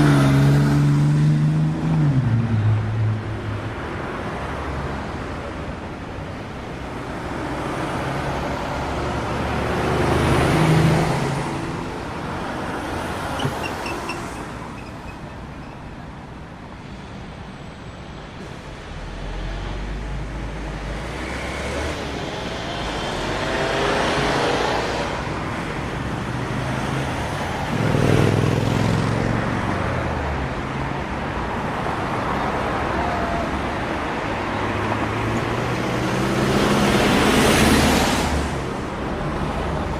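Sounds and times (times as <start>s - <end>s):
road noise hum: 0.0s - 39.9s
vehicles passing: 0.0s - 39.9s.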